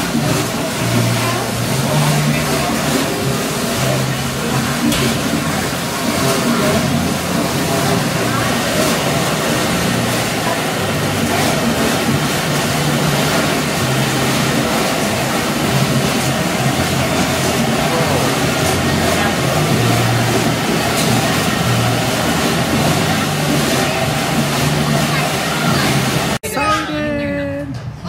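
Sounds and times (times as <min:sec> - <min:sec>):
machinery running: 0:00.0 - 0:27.2.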